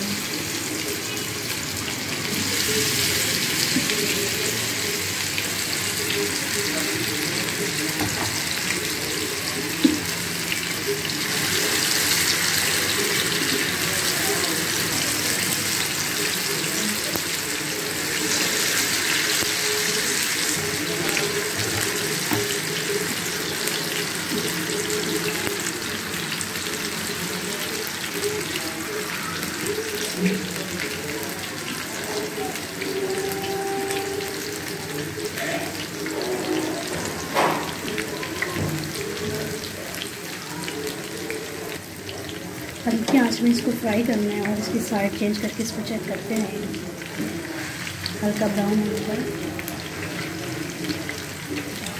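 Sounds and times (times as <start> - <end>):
chicken sizzling in hot oil: 0.0 - 51.9.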